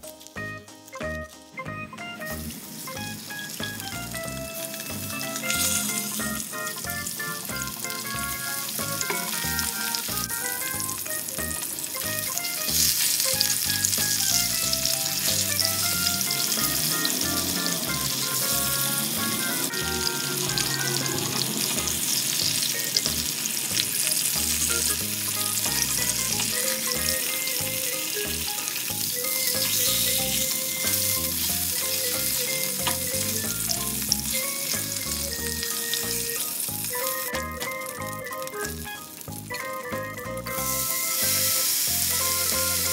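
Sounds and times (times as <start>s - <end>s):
light background music: 0.0s - 42.9s
fish fillets sizzling in hot oil: 2.2s - 42.9s.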